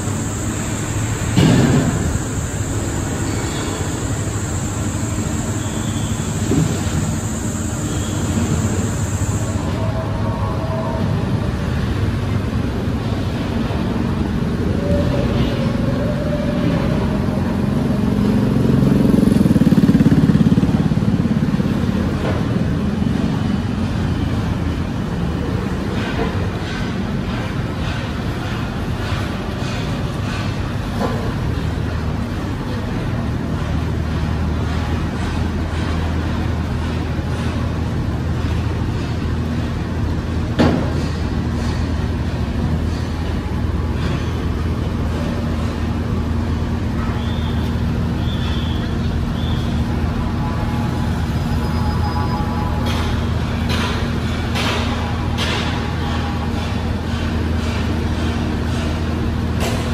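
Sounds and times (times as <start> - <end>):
heavy engines running: 0.0 - 59.9
street traffic: 0.0 - 59.9.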